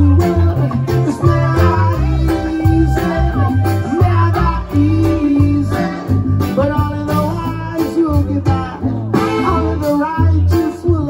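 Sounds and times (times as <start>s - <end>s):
live blues band playing: 0.0s - 11.0s.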